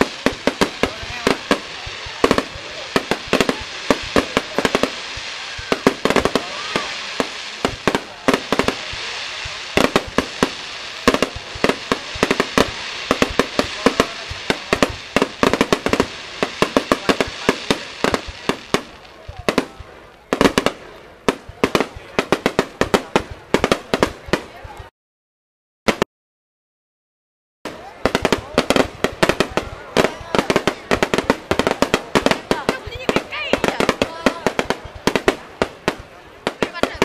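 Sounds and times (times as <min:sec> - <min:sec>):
fireworks bangs and cracks: 0:00.0 - 0:24.9, 0:27.7 - 0:37.0.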